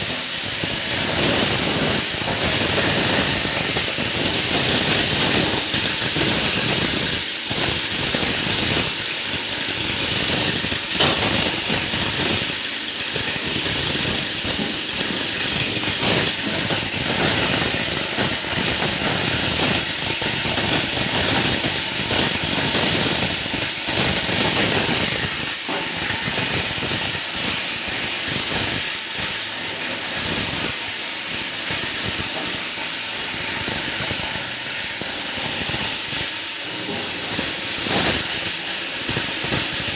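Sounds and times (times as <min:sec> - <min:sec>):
plastic grinder running: 0:00.0 - 0:39.9.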